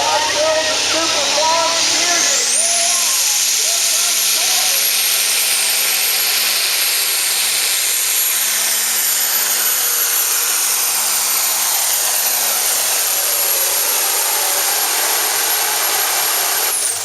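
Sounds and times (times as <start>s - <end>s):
high turbo whine: 0.0s - 17.0s
tractor engine at high revs: 0.0s - 17.0s.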